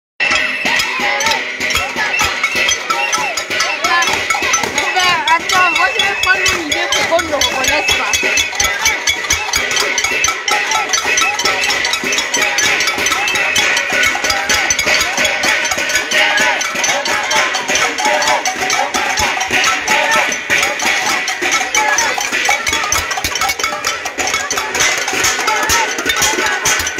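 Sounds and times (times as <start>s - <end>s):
pots being banged: 0.2s - 26.9s
voices calling out: 0.2s - 26.9s.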